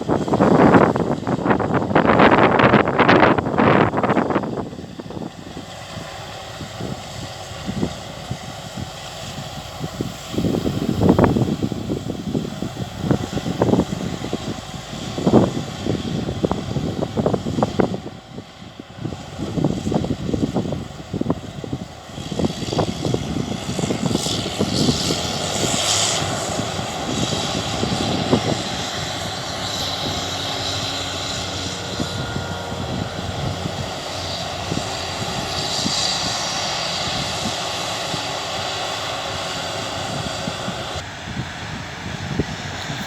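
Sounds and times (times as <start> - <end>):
farm machinery engine drone: 0.0 - 43.0
low wind buffeting: 0.0 - 43.0.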